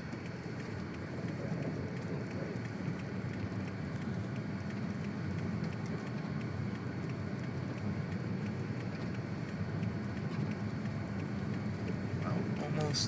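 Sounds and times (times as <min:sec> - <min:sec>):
car engine and tyres rumbling: 0:00.0 - 0:13.0
faint ticks: 0:00.0 - 0:13.0.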